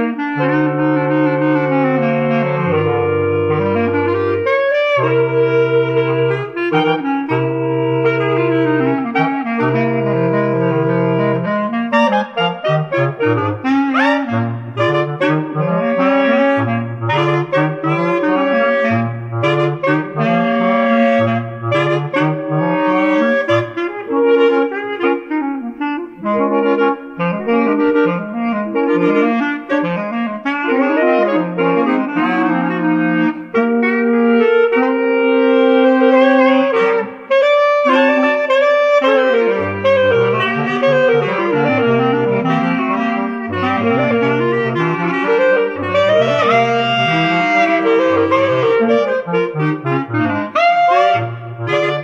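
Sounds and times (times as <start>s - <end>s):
clarinet quartet playing jazz: 0.0s - 52.0s.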